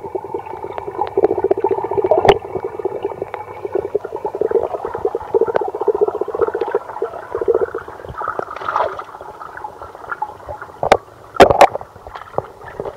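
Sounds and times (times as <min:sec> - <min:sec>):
water gurgling and churning: 0:00.0 - 0:12.9.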